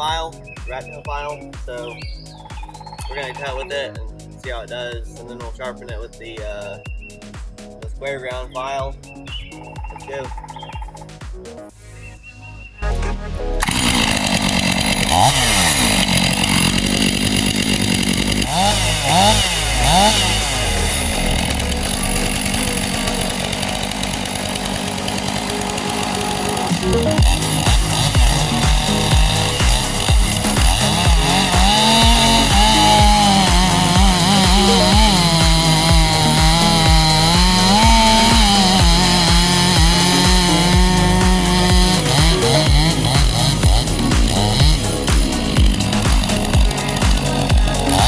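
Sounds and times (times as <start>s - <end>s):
chainsaw running and revving: 0.0s - 8.4s, 13.5s - 48.0s.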